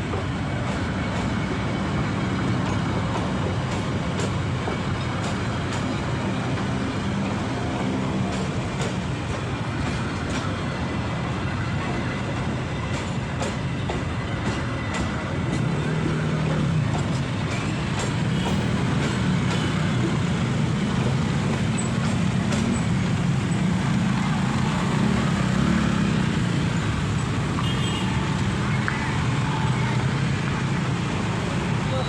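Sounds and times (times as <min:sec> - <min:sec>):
road traffic drone: 0:00.0 - 0:32.0.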